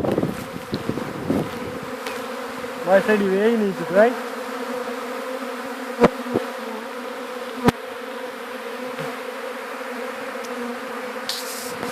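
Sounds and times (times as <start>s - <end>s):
bee swarm buzzing: 0.0s - 11.9s.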